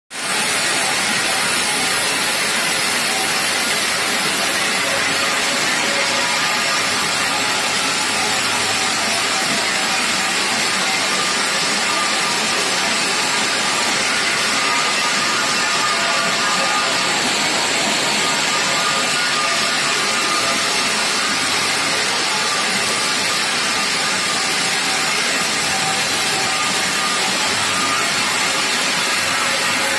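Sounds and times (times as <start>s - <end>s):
saw blade grinding stone: 0.2s - 29.9s.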